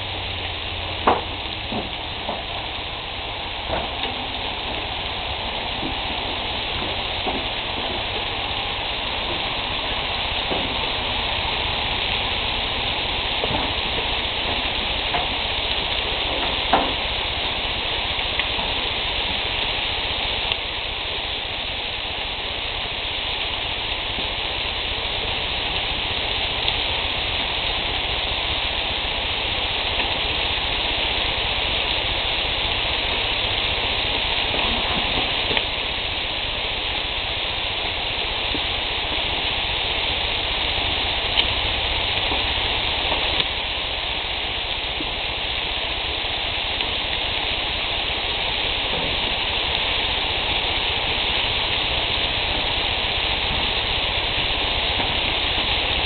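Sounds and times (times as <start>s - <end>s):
meat sizzling on a grill: 0.0s - 56.0s.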